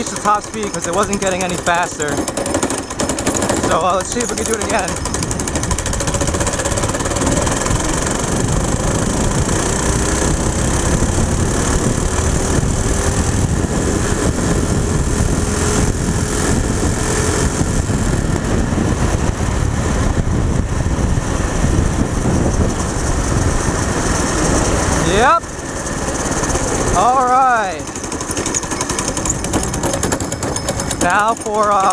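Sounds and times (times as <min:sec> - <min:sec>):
go-kart engine running flat out: 0:00.0 - 0:31.9
wind rushing over microphone: 0:02.9 - 0:31.6.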